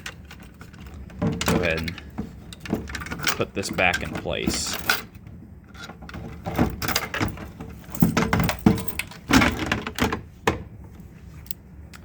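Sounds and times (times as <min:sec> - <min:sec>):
handling rattle: 0:00.0 - 0:11.6.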